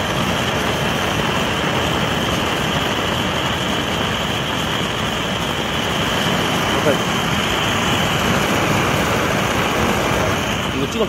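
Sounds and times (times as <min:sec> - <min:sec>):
blowtorch hissing: 0:00.0 - 0:11.0.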